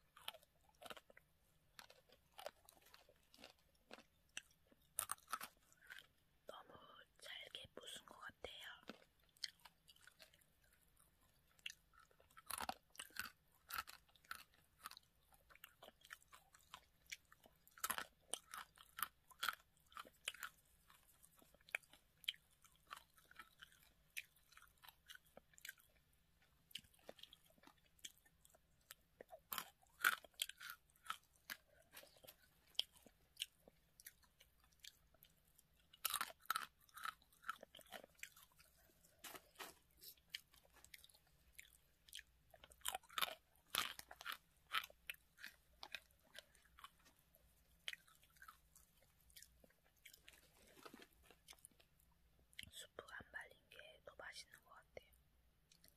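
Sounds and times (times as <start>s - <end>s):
crunching dry noodles: 0.0s - 6.2s, 8.7s - 52.7s.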